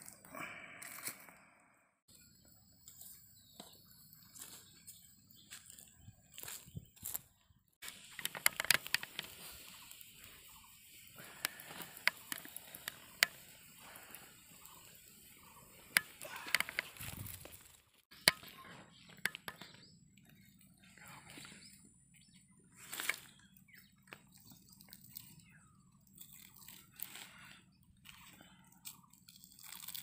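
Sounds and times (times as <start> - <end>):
twigs and embers crackling: 2.8 - 21.8, 22.7 - 30.0.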